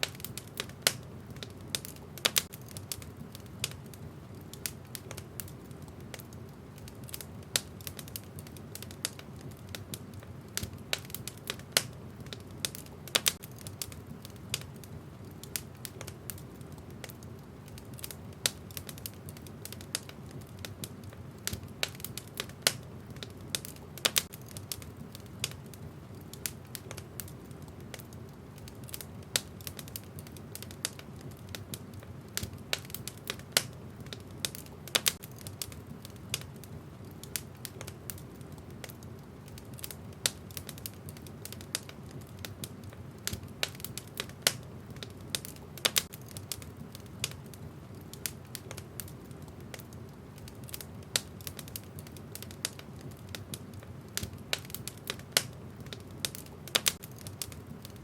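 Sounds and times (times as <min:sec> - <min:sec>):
fire rumbling: 0:00.0 - 0:58.0
logs crackling and popping: 0:00.0 - 0:58.0.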